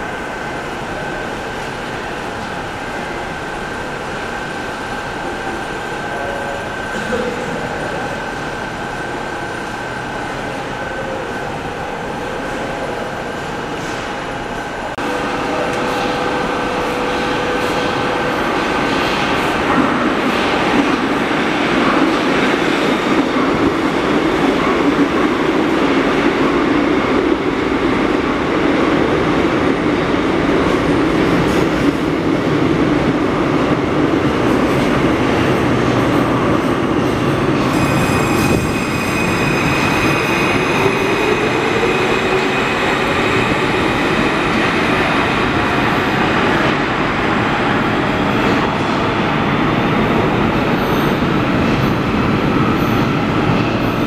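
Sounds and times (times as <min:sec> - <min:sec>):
metro trains rumbling: 0:00.0 - 0:54.0.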